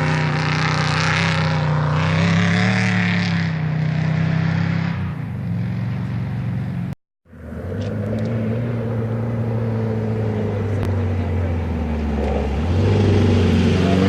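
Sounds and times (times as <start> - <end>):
race vehicle engine running: 0.0 - 14.0.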